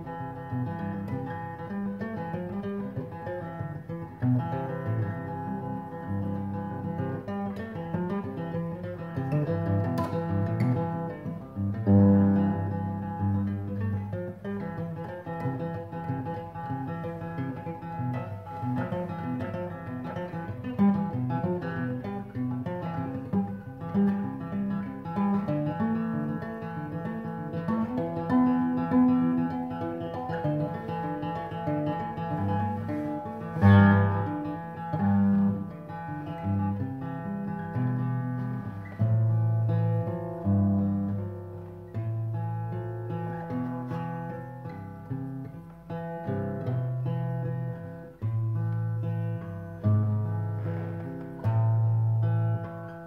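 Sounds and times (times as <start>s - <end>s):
fingerpicked acoustic guitar: 0.0s - 53.0s.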